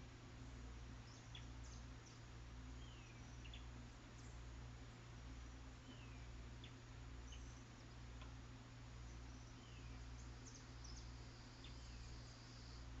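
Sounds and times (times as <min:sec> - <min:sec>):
electrical hum and hiss: 0:00.0 - 0:13.0
birds chirping: 0:00.9 - 0:13.0.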